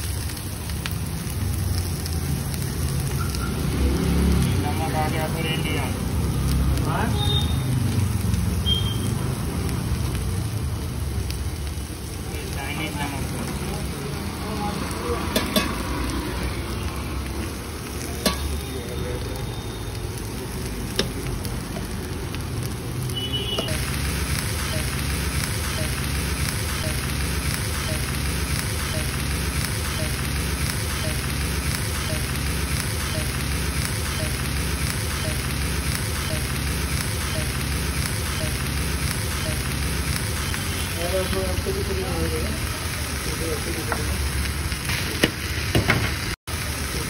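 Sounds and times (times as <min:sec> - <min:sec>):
noodles sizzling in a wok: 0:00.0 - 0:47.0.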